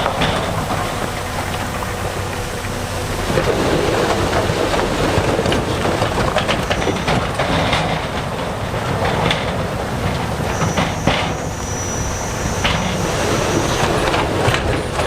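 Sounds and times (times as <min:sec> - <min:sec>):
diesel engine running: 0:00.0 - 0:15.0
metal and stone rattling: 0:00.0 - 0:15.0.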